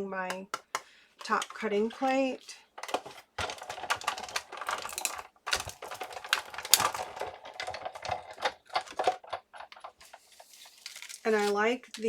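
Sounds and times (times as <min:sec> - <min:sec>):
plastic plates clicking and clacking: 0:00.2 - 0:12.0.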